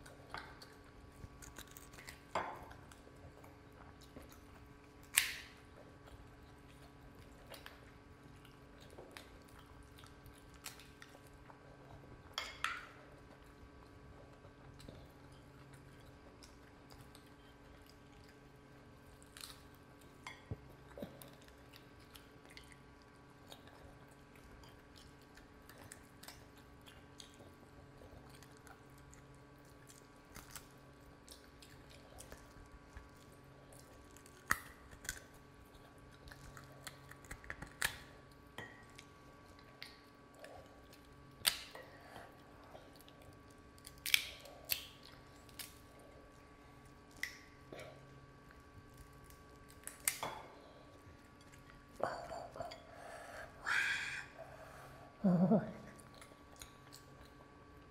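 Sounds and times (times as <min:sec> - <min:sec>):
chewing: 0:00.0 - 0:53.6, 0:55.7 - 0:57.9.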